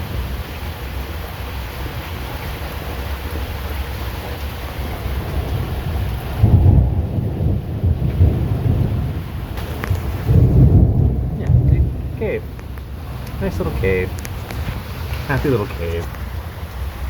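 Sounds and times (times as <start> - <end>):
rain hiss: 0.0 - 17.0
thunder rumbling: 0.0 - 17.0.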